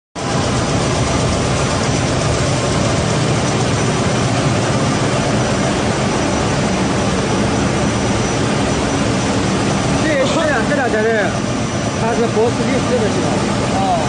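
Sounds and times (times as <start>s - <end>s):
production machine running: 0.2s - 14.0s.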